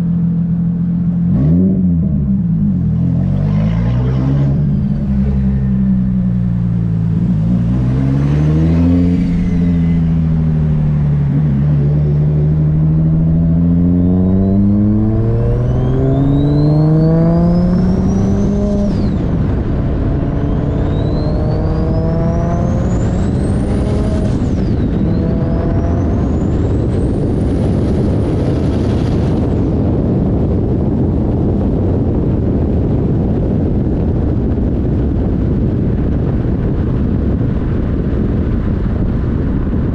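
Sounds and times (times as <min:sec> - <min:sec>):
wind and road noise: 0:00.0 - 0:39.9
car engine accelerating: 0:00.7 - 0:39.9.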